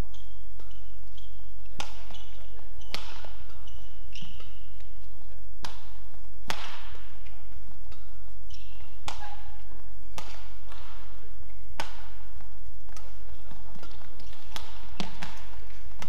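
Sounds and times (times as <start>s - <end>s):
shoes squeaking on court: 0.0s - 16.0s
racket hitting shuttlecock: 0.1s - 16.0s.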